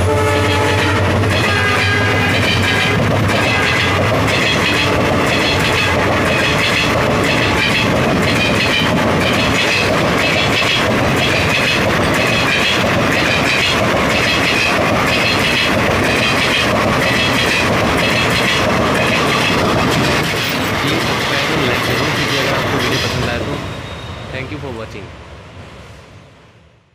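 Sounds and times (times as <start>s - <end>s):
train wheels rushing on rail: 0.0s - 26.9s.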